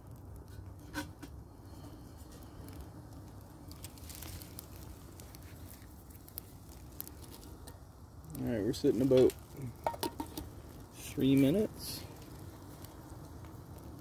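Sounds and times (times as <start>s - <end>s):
low steady rumble: 0.0s - 14.0s
twigs crackling in fire: 0.0s - 14.0s.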